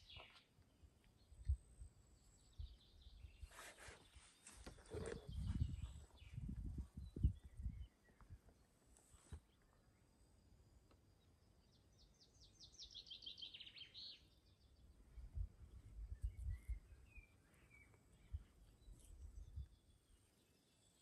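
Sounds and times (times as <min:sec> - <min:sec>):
songbird trill: 0:00.0 - 0:21.0.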